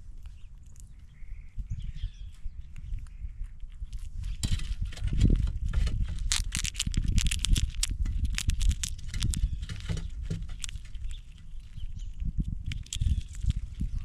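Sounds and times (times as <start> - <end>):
squirrels cracking peanut shells: 0.0 - 14.0
squirrels scrabbling: 0.0 - 14.0.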